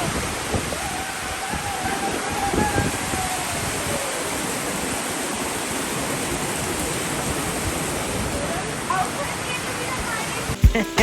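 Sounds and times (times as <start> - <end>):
water rushing between pools: 0.0 - 11.0.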